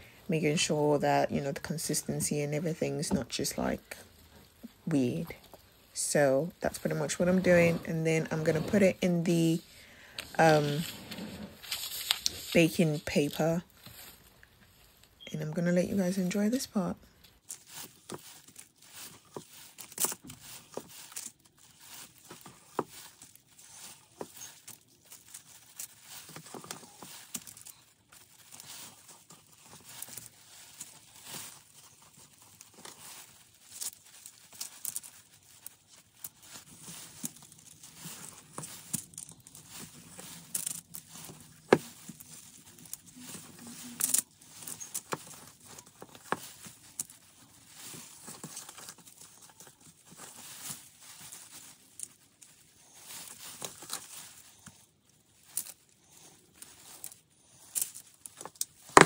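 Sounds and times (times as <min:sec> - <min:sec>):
plastic wrap crinkling: 0:00.0 - 0:59.0.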